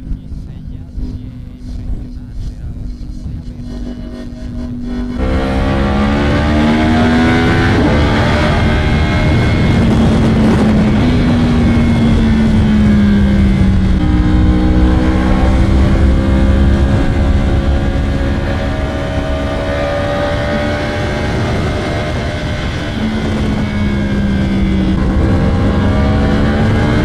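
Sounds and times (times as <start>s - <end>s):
wind and road noise: 0.0s - 27.0s
motorcycle engine under load: 3.7s - 27.0s.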